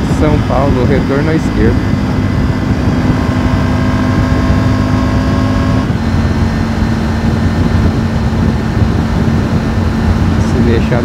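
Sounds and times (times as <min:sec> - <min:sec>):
motorcycle engine drone: 0:00.0 - 0:11.0
wind rush: 0:00.0 - 0:11.0.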